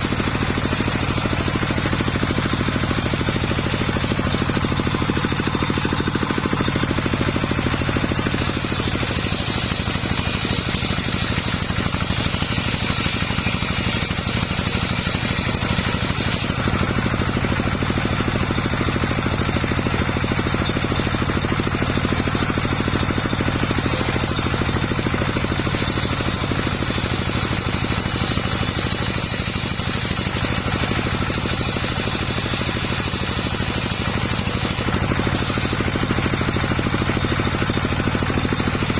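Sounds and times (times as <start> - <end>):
saw blade ripping wood: 0.0 - 18.6, 20.4 - 38.9
engine-driven circular saw running: 0.0 - 38.9.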